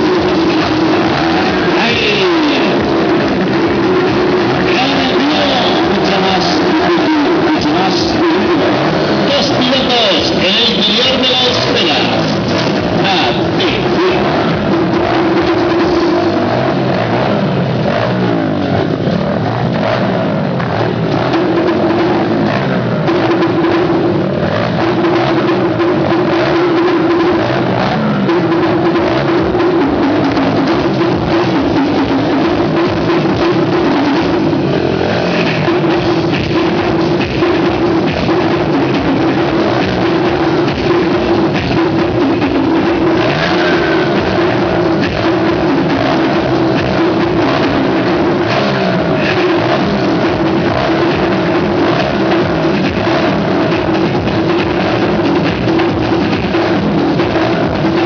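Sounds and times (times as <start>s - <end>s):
dirt bike engines revving: 0.0s - 58.0s
loud rock music with drums and guitar: 0.0s - 58.0s.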